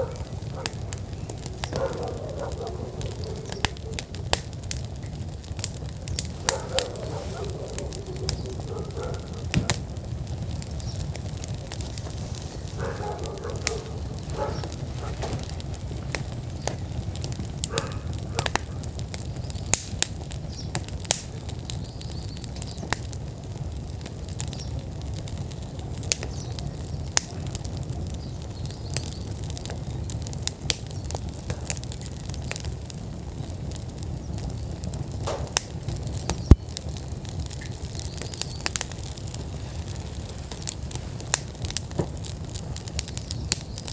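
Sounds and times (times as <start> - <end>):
fire crackling and popping: 0.0 - 43.9
fire flames rumbling: 0.0 - 43.9.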